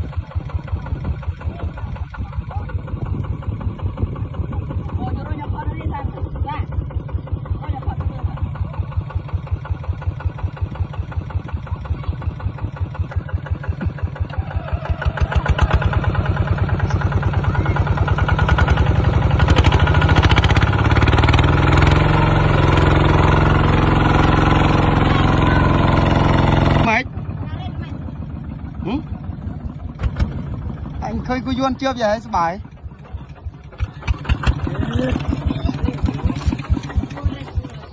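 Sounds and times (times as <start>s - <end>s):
diesel engine chugging: 0.0s - 37.9s.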